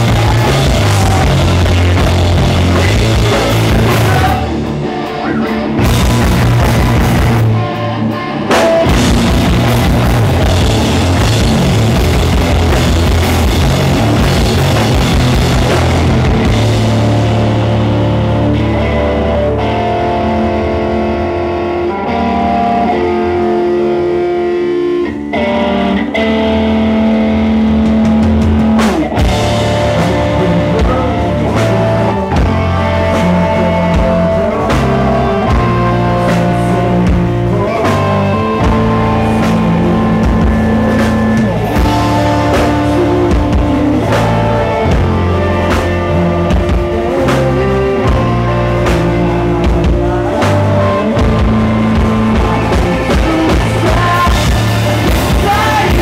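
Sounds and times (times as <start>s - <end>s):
drum kit: 0.0s - 56.0s
rock band playing: 0.0s - 56.0s.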